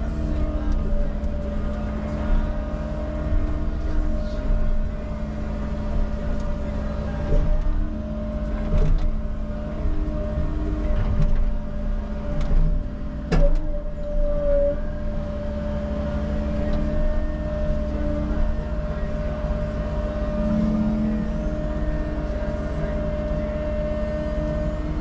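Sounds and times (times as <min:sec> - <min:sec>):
construction machine engine running: 0:00.0 - 0:25.0.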